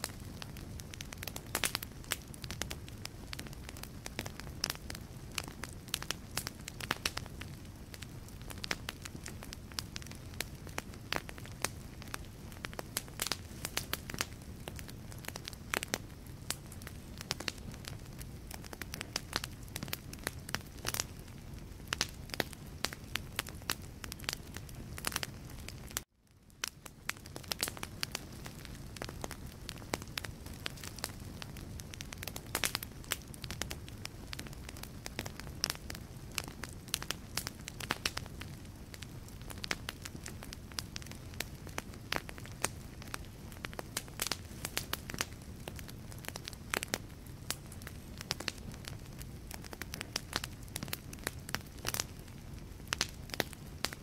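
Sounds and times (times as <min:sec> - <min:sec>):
logs crackling in fireplace: 0:00.0 - 0:54.0.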